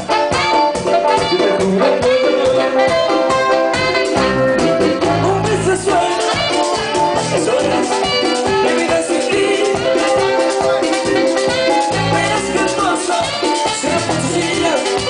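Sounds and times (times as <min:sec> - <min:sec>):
live band playing: 0:00.0 - 0:15.0
man singing into a microphone: 0:01.2 - 0:03.3, 0:04.9 - 0:15.0.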